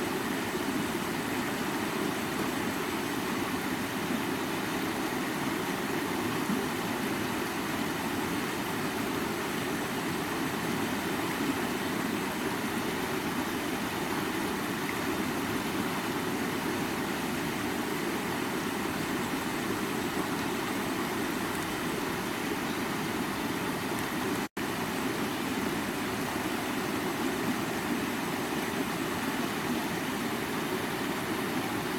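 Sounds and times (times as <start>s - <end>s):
water running over rocks: 5.0s - 31.9s.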